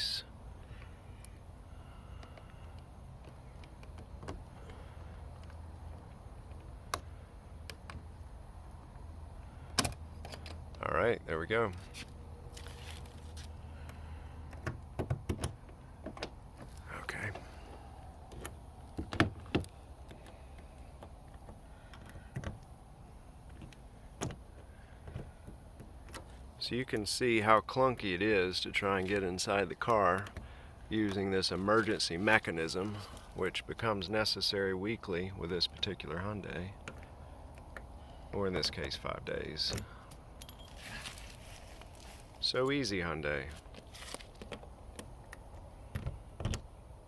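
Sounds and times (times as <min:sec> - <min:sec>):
low background rumble: 0:00.0 - 0:47.0
low steady hum: 0:00.0 - 0:47.0.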